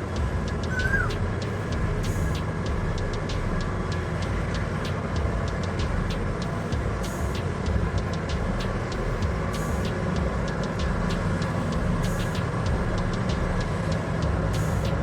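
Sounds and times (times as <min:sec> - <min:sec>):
heavy machinery low rumble: 0:00.0 - 0:15.0.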